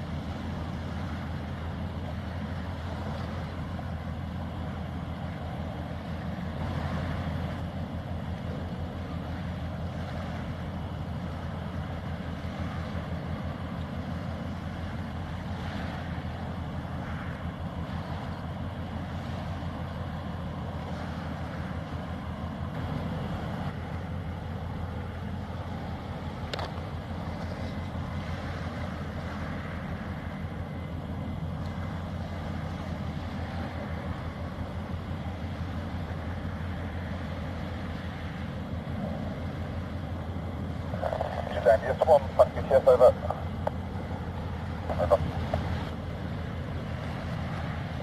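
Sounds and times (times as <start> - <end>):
low engine drone: 0.0 - 48.0.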